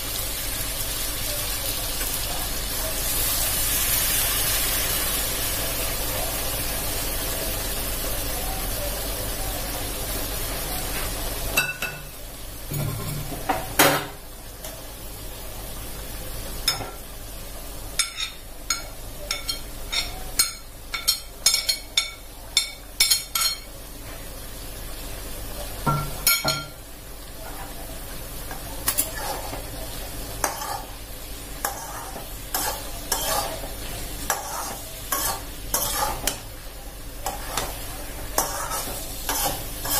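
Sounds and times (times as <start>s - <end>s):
water sizzling in hot wok: 0.0s - 39.9s.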